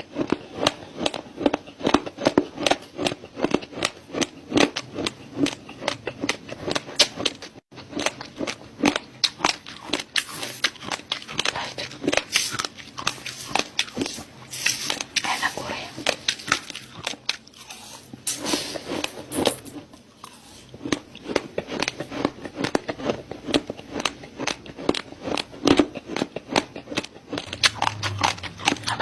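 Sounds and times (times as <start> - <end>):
chewing raw rice grains: 0.0 - 29.0.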